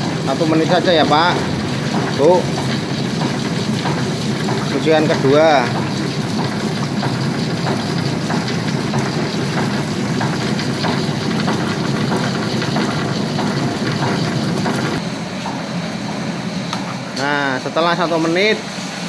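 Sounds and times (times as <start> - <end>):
washing machine churning beans: 0.0 - 19.0.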